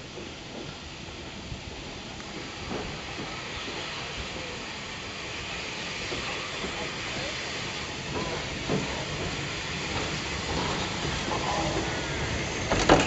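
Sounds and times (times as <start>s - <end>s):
steam locomotive hiss and rumble: 0.0s - 13.0s.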